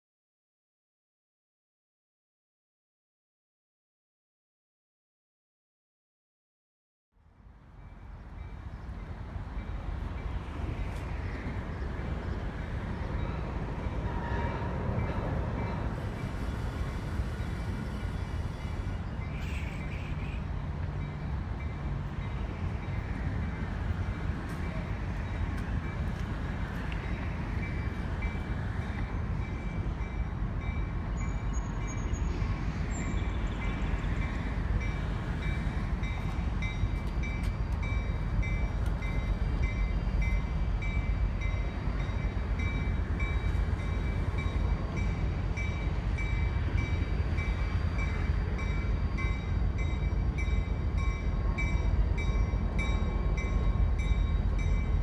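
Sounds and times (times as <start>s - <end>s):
diesel locomotive engine rumble: 7.2s - 55.0s.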